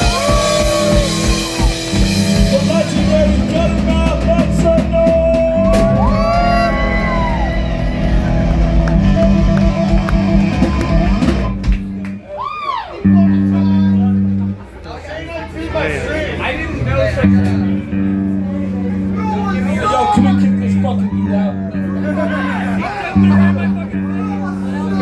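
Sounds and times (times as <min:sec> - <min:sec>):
live rock band playing: 0:00.0 - 0:12.3, 0:16.6 - 0:25.0.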